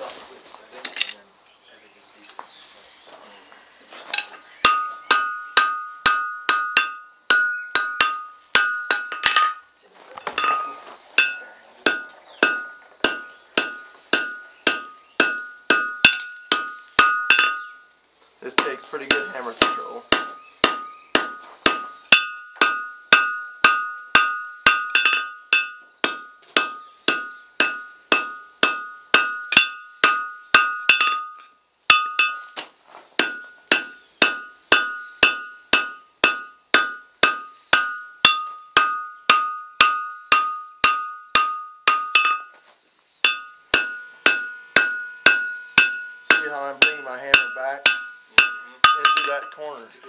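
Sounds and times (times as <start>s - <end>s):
hammer striking steel on anvil: 4.2s - 9.6s, 10.4s - 17.7s, 18.6s - 32.6s, 33.2s - 42.5s, 43.2s - 49.7s.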